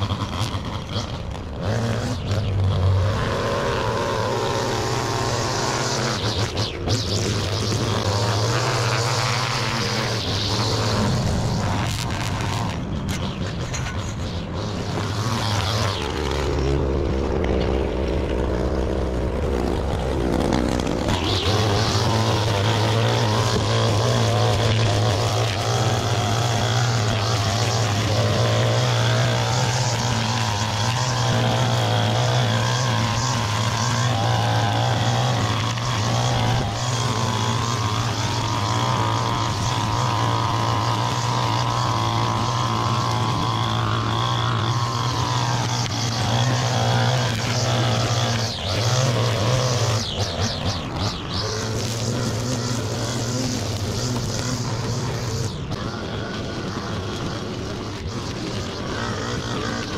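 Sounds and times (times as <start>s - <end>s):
string trimmer cutting grass: 0.0s - 59.9s.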